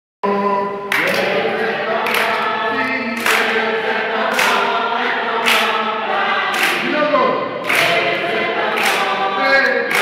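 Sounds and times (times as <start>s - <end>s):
choir singing: 0.3s - 10.0s
hands clapping in time: 0.9s - 10.0s.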